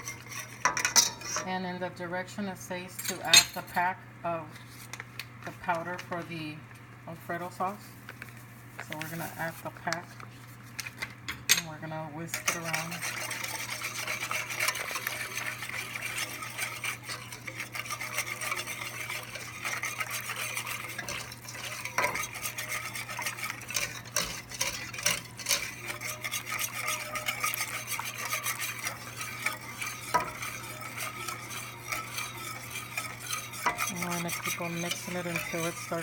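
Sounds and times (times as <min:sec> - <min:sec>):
whisk scraping a pan: 0:00.0 - 0:06.2, 0:07.3 - 0:11.0, 0:11.7 - 0:36.0.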